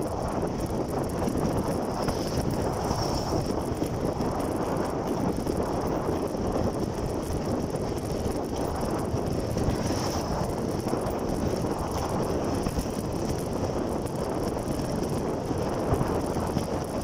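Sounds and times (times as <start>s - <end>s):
motorcycle road rumble: 0.0s - 17.0s
wind rushing over microphone: 0.0s - 17.0s.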